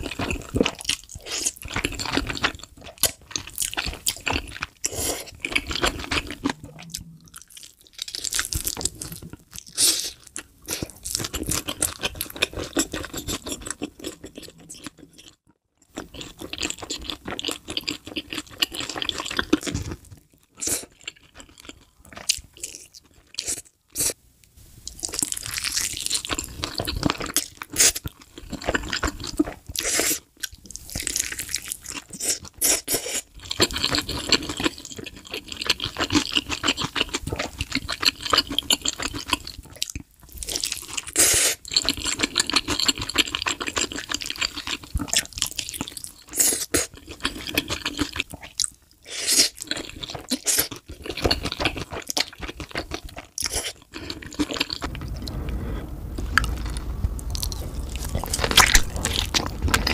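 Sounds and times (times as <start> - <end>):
wet crunching and chewing: 0.0 - 24.2, 24.9 - 59.9.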